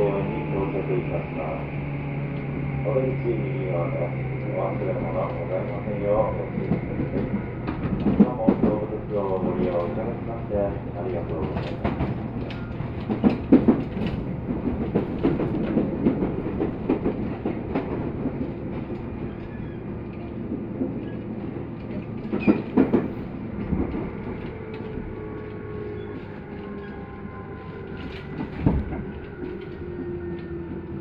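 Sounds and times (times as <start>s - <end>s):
train rumbling: 0.0s - 31.0s
wheels clacking over rail joints: 4.0s - 30.6s.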